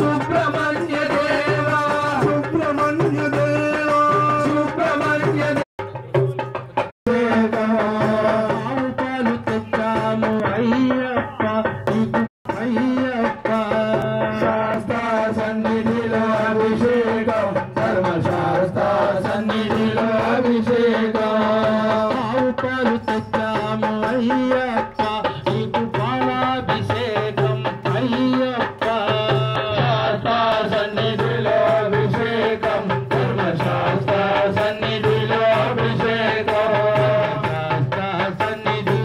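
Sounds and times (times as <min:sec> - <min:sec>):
devotional singing into microphone: 0:00.0 - 0:05.6, 0:07.1 - 0:39.0
hand drum rhythm: 0:00.0 - 0:39.0.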